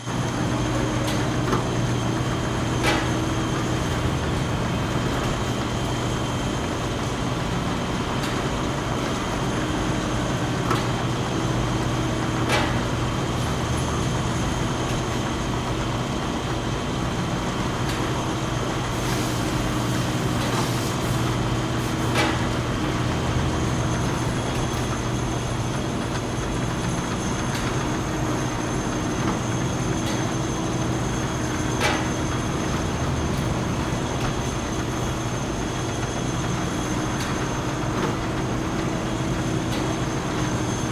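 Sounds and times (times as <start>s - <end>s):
industrial machinery humming: 0.0s - 40.9s.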